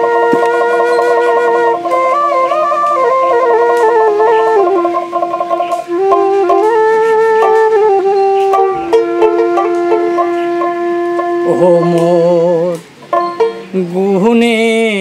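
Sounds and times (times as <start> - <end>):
plucked lute: 0.0 - 14.8
bamboo flute folk melody: 0.0 - 15.0.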